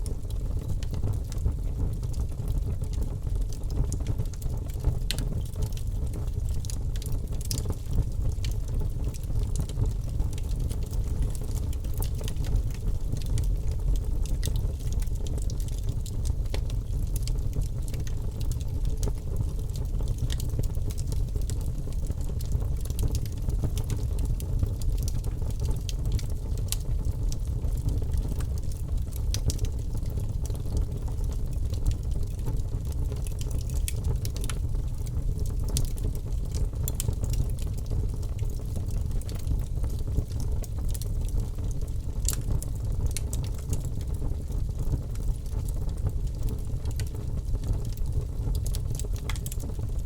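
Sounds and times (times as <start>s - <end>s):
low rumble of flame: 0.0s - 50.0s
logs crackling and popping: 0.1s - 50.0s.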